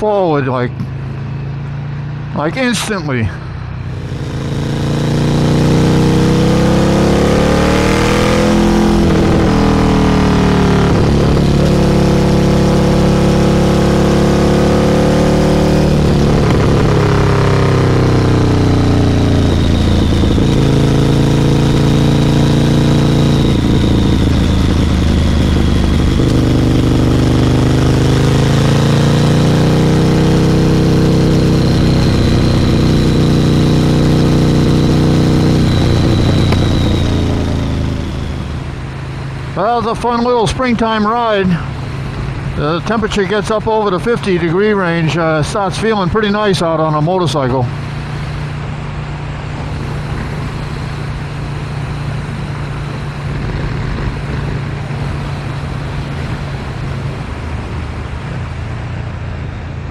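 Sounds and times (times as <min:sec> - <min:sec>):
motorcycle engine revving: 0:00.8 - 0:40.2, 0:47.7 - 0:59.9.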